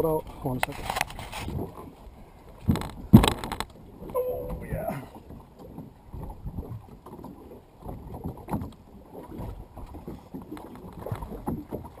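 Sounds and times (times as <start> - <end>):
water slapping against boat hull: 0.5 - 12.0
low knocks of boat: 1.4 - 12.0.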